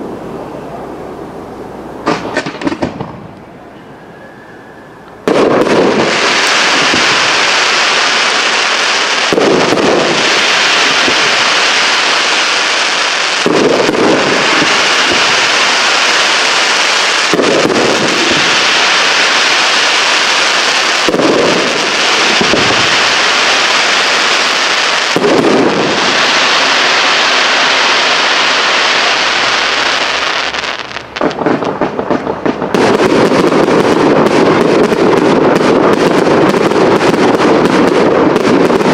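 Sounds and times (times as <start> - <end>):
firework shells bursting: 2.0 - 3.2, 5.2 - 38.9
firework crackle: 2.0 - 3.4, 5.2 - 38.9
rapid firework popping: 2.1 - 3.2, 5.2 - 38.9.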